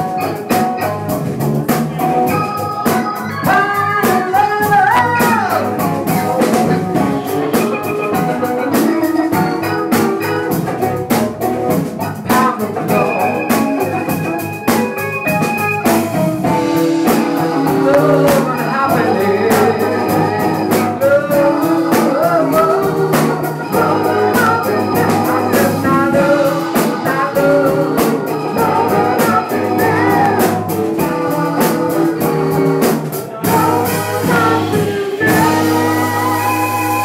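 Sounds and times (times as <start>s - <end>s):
live soul funk band: 0.0s - 37.0s
man singing: 1.9s - 14.5s, 16.2s - 37.0s.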